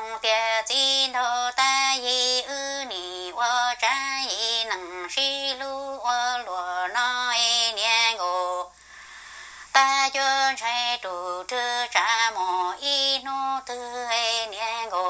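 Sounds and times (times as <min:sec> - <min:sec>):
woman singing unaccompanied: 0:00.0 - 0:08.8, 0:09.6 - 0:15.0.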